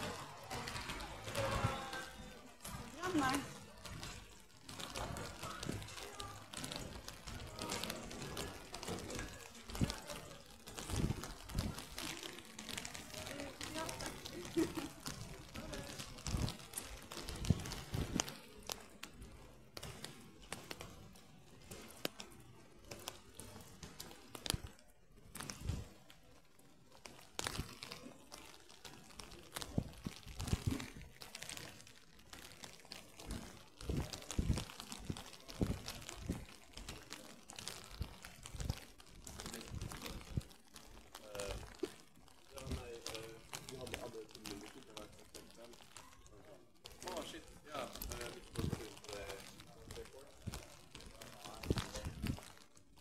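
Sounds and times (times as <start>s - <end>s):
footsteps: 0.0s - 53.0s.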